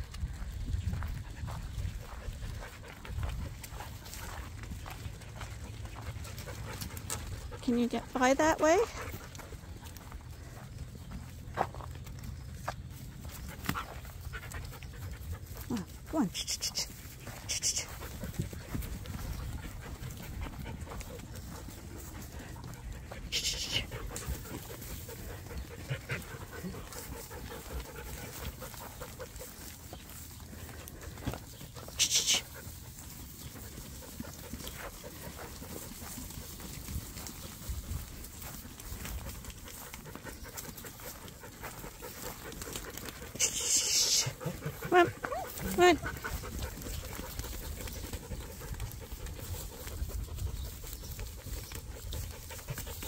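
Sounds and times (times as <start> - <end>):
sheep scuffing over dirt and straw: 0.0 - 53.0
dog panting: 0.9 - 53.0.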